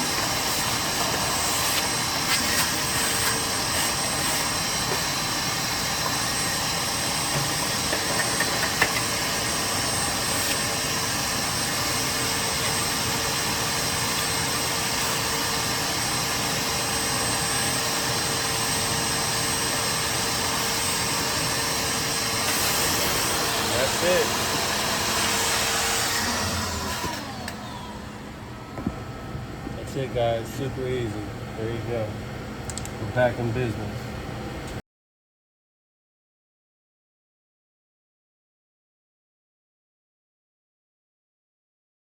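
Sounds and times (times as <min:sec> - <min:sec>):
shop vac running: 0:00.0 - 0:34.8.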